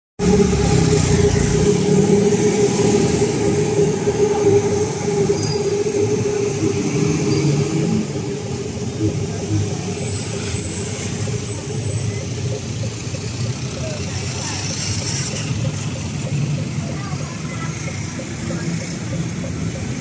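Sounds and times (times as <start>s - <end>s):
crossing signal steady tone: 0.2s - 20.0s
road traffic: 0.2s - 20.0s.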